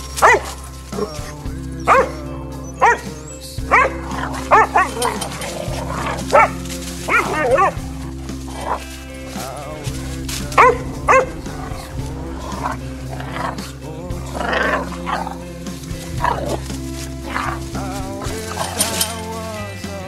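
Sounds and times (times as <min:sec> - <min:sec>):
background music: 0:00.0 - 0:20.0
puppies barking: 0:00.0 - 0:20.0
puppies play-fighting: 0:00.0 - 0:20.0.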